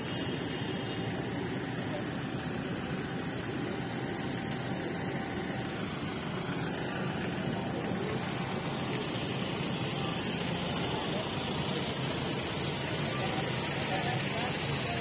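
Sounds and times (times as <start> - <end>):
road and traffic noise: 0.0 - 15.0
scooter engine running: 0.0 - 15.0.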